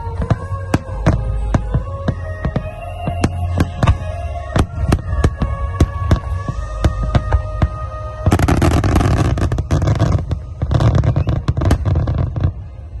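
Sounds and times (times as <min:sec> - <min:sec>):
fireworks bangs: 0:00.0 - 0:12.6
fireworks crackling: 0:00.0 - 0:12.8.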